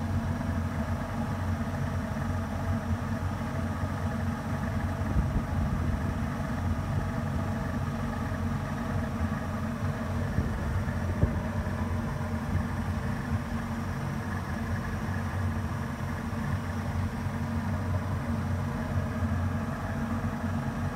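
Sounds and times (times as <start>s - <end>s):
outboard engines running: 0.0s - 20.9s.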